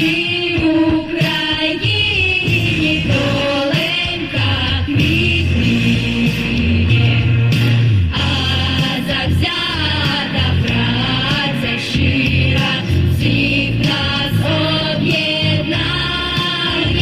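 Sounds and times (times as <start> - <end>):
instrumental accompaniment with bass: 0.0 - 17.0
vocal ensemble singing pop song: 0.0 - 17.0.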